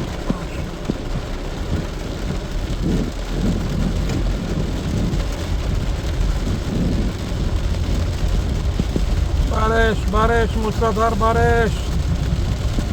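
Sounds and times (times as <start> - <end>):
deep rumble: 0.0 - 12.9
rain falling steadily: 0.0 - 12.9.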